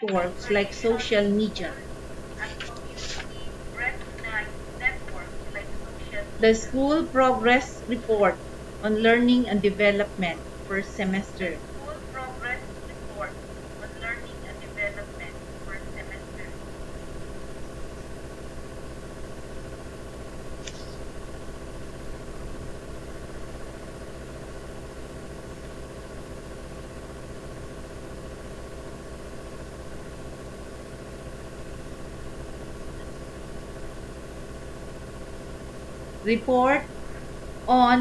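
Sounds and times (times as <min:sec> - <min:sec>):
droning mechanical hum: 0:00.0 - 0:38.0.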